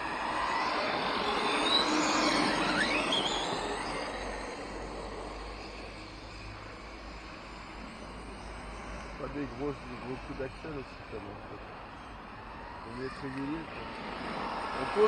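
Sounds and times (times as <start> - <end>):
radio-controlled truck motor whine: 0.0 - 15.0.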